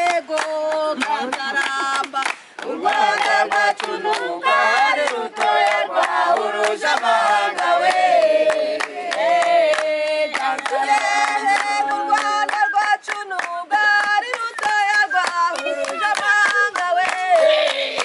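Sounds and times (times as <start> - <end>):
hands clapping in time: 0.0 - 4.3, 5.0 - 18.0
group singing together: 0.0 - 17.8.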